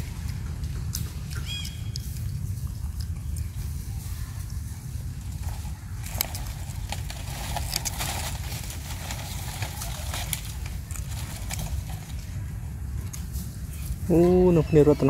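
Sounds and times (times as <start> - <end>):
monkey chewing crunchily: 0.0 - 14.1
steady low rumble: 0.0 - 14.2.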